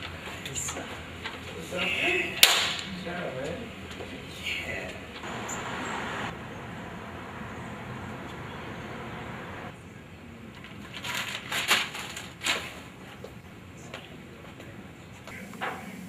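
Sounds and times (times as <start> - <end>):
steady outdoor noise: 0.0 - 16.0.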